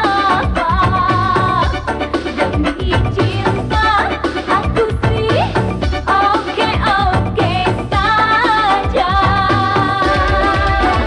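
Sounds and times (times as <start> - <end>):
pop song with held note: 0.0 - 11.0.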